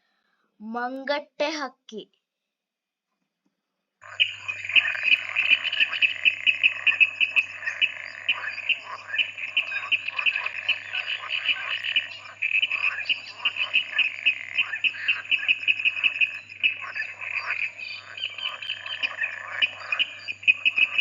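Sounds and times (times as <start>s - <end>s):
hornbill chattering calls: 4.1s - 21.0s.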